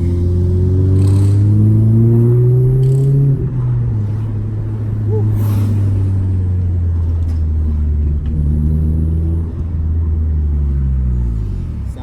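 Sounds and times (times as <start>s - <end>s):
car engine deep exhaust drone: 0.0s - 12.0s.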